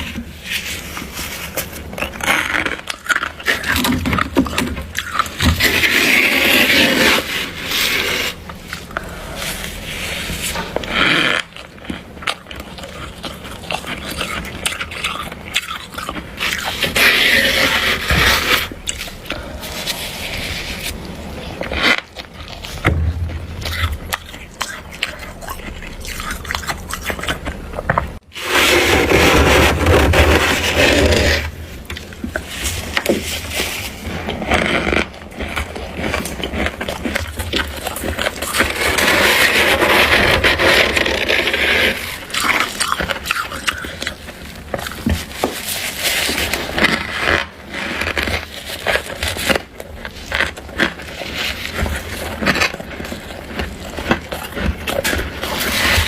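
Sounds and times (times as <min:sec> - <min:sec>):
spoon scraping crunchy frost: 0:00.0 - 0:56.0.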